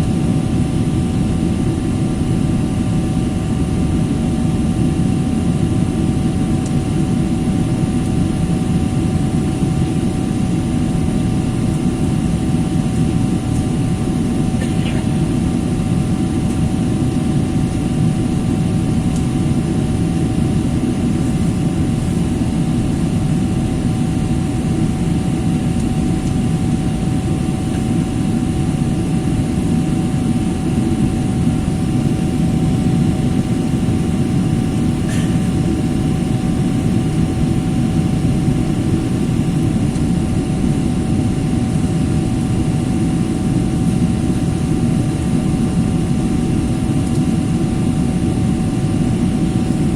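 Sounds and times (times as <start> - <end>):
airliner cabin roar: 0.0 - 49.9
faint hum: 1.7 - 49.9.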